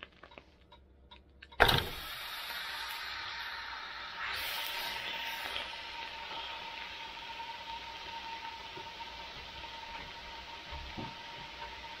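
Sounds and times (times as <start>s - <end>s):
steak sizzling in a skillet: 1.9s - 12.0s.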